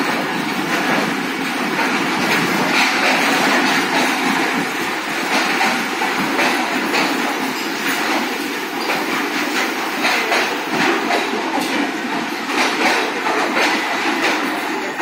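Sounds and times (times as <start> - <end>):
train wheels clattering over rail joints: 0.0 - 15.0.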